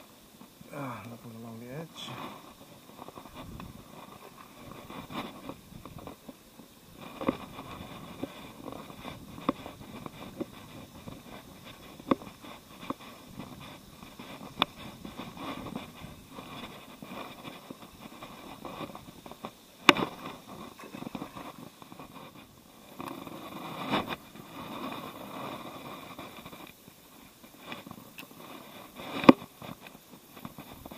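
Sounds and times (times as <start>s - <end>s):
handling noise on microphone: 0.0s - 30.9s
rustling tall grass: 0.0s - 30.9s.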